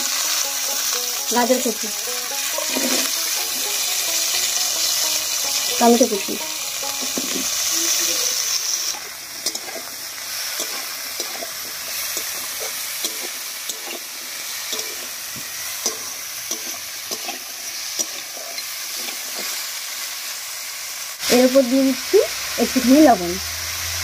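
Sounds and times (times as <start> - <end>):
metal spatula scraping a pan: 0.0 - 19.6
vegetables sizzling in hot oil: 0.0 - 24.0.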